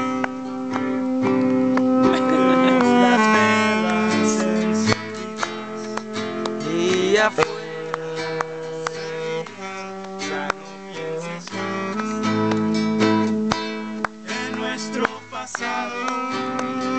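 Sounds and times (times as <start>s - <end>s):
acoustic guitar strummed and plucked: 0.0s - 16.9s.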